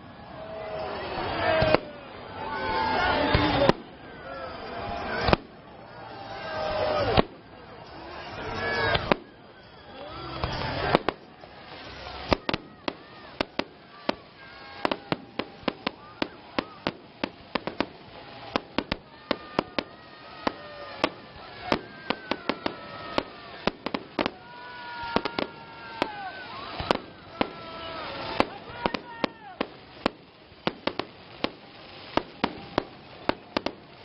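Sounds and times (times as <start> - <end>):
fireworks bursting with sharp bangs: 0.1 - 34.0.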